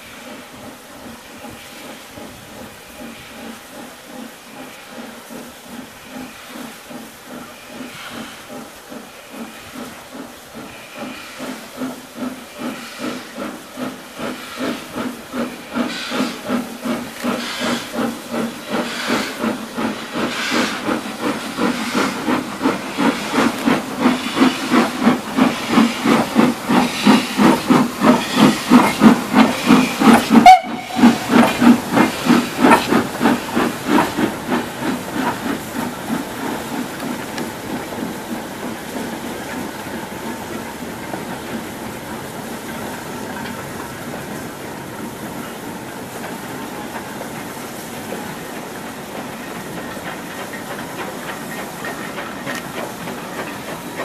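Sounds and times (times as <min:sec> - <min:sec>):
hissing steam: 0:00.0 - 0:54.0
steam locomotive chuffing: 0:00.0 - 0:54.0.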